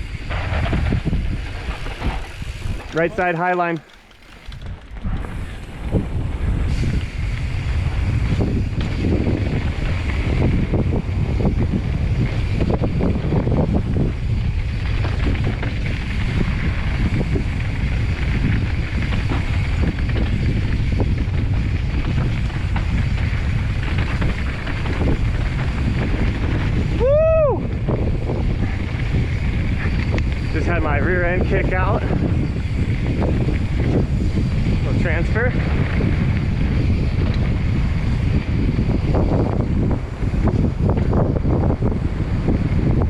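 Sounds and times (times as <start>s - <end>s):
bike rattling over dirt trail: 0.0s - 43.0s
wind buffeting microphone: 0.0s - 43.0s.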